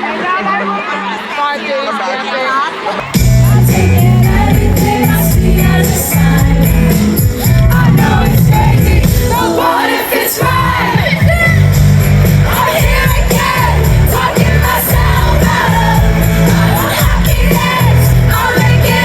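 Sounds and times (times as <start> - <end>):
crowd singing and cheering: 0.0 - 19.0
lead vocal singing: 3.0 - 19.0
live pop band with heavy bass: 3.0 - 19.0.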